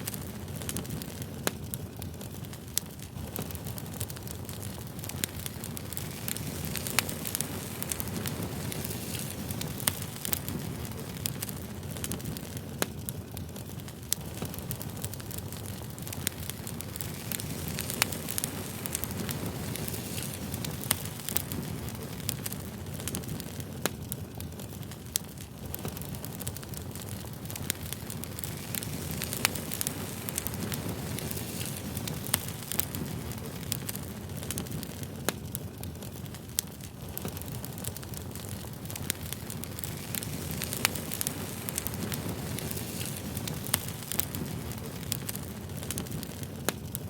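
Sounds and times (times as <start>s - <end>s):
fire crackling and popping: 0.0s - 47.0s
wood fire roaring: 0.0s - 47.0s.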